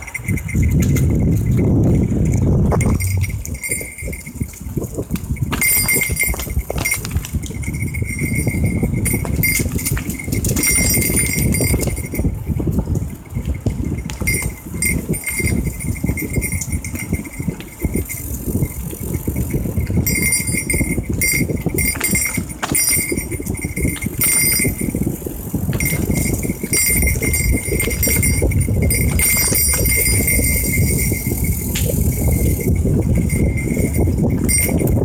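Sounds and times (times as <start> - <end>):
bike rattling and clattering: 0.0 - 35.0
bike tyres rumbling on stones: 0.0 - 35.0.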